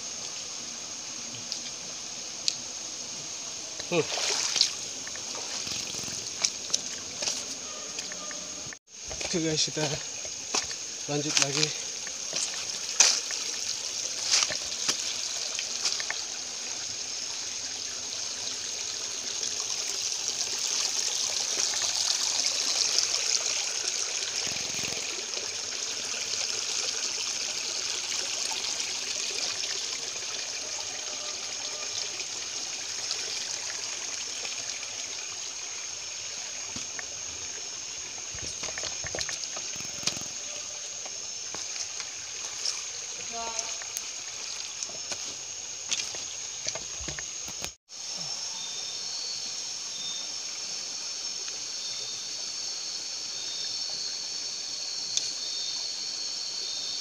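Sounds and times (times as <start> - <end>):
river water trickling over rocks: 0.1 - 2.7, 3.6 - 47.8.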